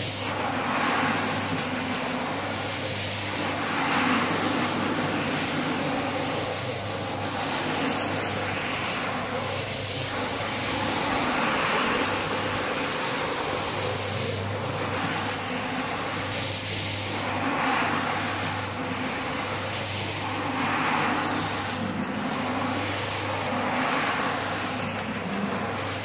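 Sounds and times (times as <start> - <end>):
brush scrubbing wet carpet: 0.0 - 26.0
floor scrubber motor hum: 0.0 - 26.0.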